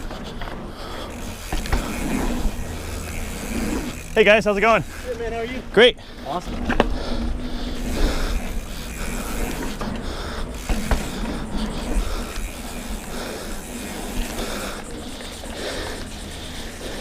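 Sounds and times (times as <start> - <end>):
bike clicks and rattles: 0.0 - 17.0
mountain bike tyres rolling on sand: 0.0 - 17.0.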